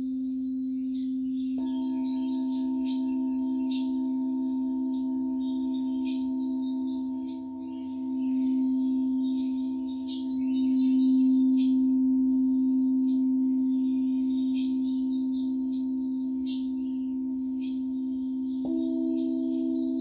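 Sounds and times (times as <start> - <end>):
birds chirping in trills: 0.0 - 20.0
singing bowl ringing: 0.0 - 20.0.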